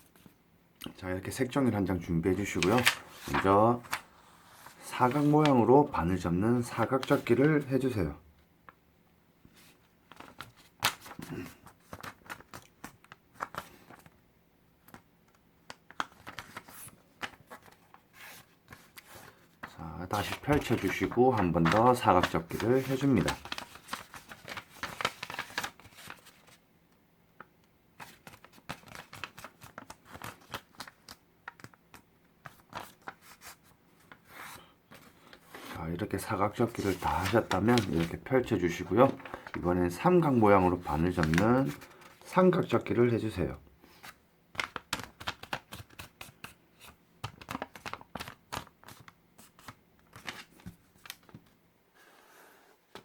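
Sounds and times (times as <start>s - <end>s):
paper crinkling and creasing: 2.3s - 7.9s, 9.5s - 14.2s, 14.8s - 26.6s, 28.0s - 43.0s, 43.9s - 51.5s.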